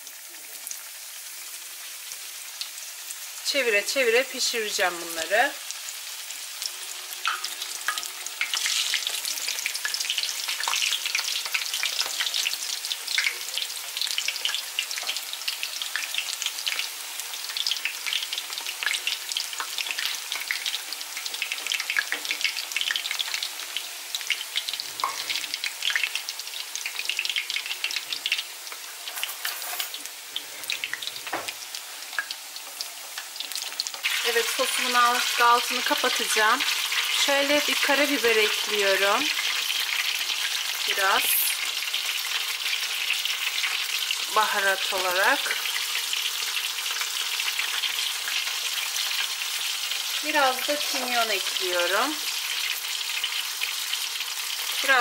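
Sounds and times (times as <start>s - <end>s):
eggplant sizzling in hot oil: 0.0s - 55.0s.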